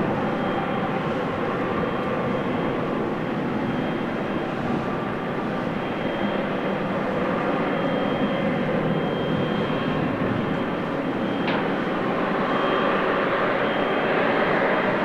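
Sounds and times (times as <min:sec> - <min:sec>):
high-pitched engine whine: 0:00.0 - 0:15.0
jet engines running: 0:00.0 - 0:15.0.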